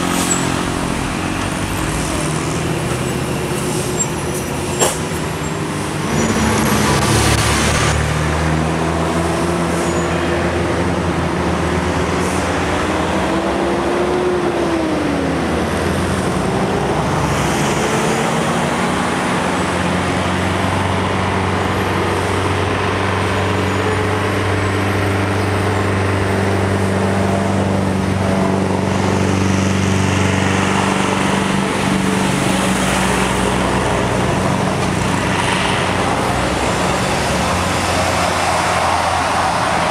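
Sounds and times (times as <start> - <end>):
truck bus and car engines: 0.0 - 39.9.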